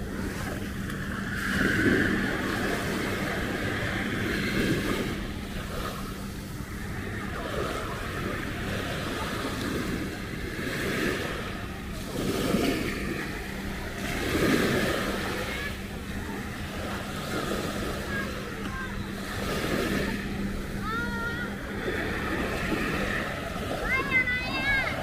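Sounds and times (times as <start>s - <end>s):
small waves washing onto shore: 0.0s - 25.0s.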